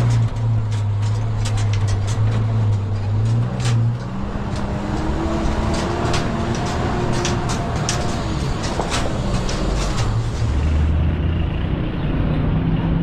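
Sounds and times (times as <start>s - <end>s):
knocks and clicks: 0.0s - 10.8s.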